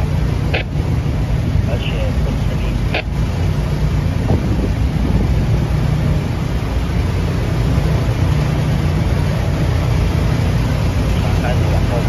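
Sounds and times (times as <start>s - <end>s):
boat engine rumble: 0.0s - 12.0s
choppy water: 0.0s - 12.0s
wind hiss: 0.0s - 12.0s.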